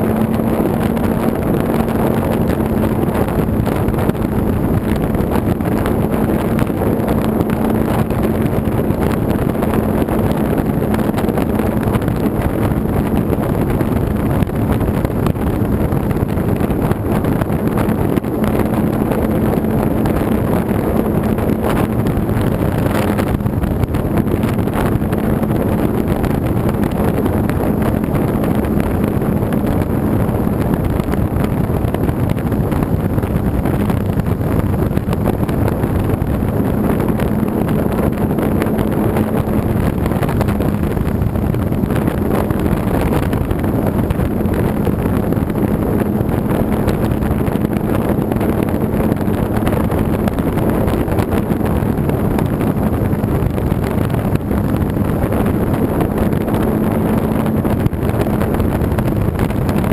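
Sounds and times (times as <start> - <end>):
model airplane engine and propeller: 0.0 - 59.9
wind rushing over microphone: 0.0 - 59.9.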